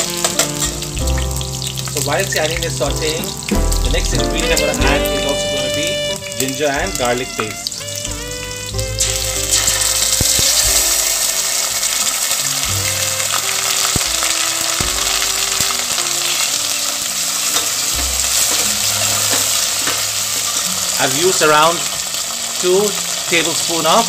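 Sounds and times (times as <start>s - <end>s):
onions sizzling in hot oil: 0.0s - 3.5s, 7.6s - 24.0s.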